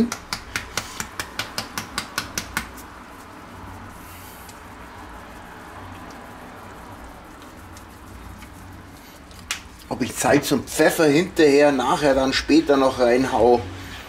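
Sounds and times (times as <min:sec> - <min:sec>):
nutmeg rasped on a grater: 0:00.4 - 0:12.2.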